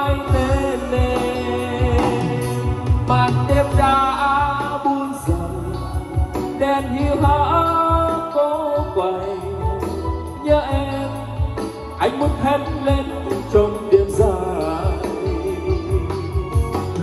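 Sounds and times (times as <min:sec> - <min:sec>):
song with heavy bass beat: 0:00.0 - 0:17.0.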